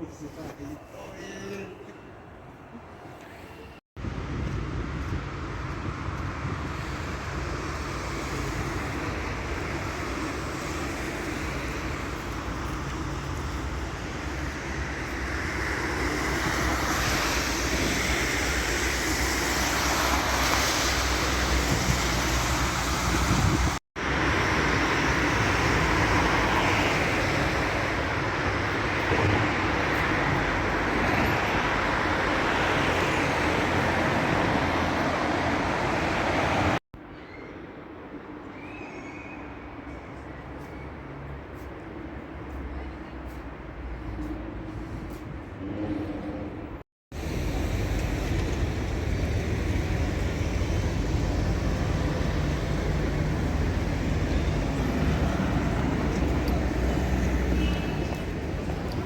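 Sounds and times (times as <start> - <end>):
city traffic: 0.0 - 59.0.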